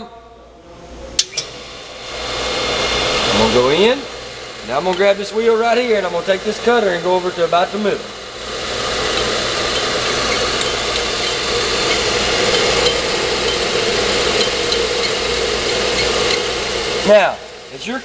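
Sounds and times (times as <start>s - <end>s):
brake lathe motor humming: 1.4s - 17.8s.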